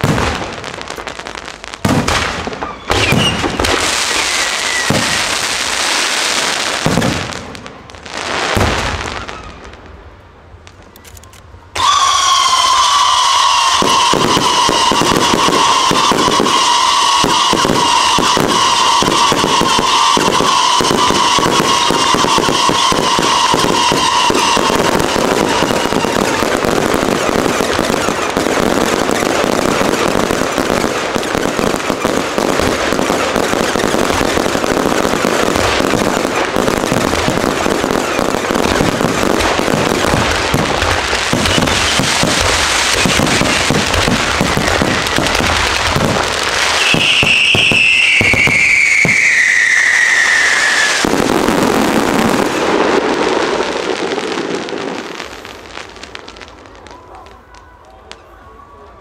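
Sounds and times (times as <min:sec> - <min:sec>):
fireworks bursting and crackling: 0:00.0 - 0:59.0
firework whistle: 0:01.9 - 0:07.4, 0:08.2 - 0:09.8, 0:10.9 - 0:55.9.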